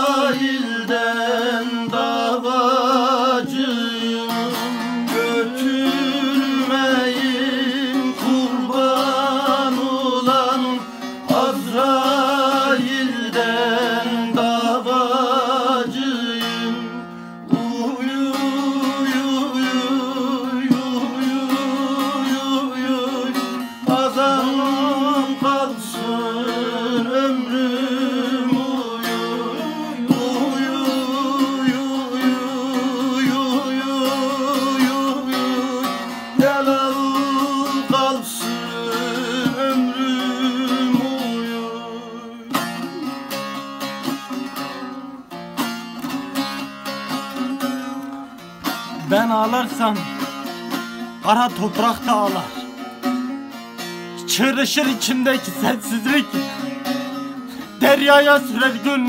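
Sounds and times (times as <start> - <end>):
man singing ornamented notes: 0.0 - 45.4, 46.0 - 59.0
long-necked lute strumming: 0.0 - 59.0.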